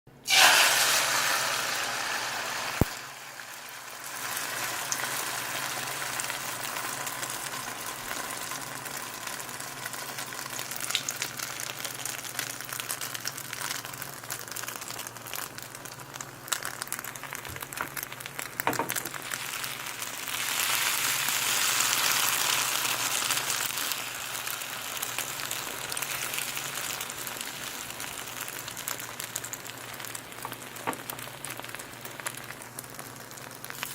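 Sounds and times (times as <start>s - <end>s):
eggs sizzling in a pan: 0.2s - 33.9s.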